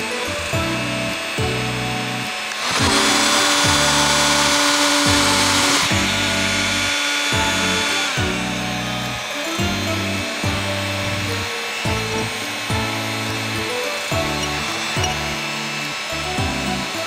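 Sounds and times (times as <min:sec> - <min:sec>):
background music: 0:00.0 - 0:17.0
heat gun blowing hiss: 0:00.0 - 0:17.0.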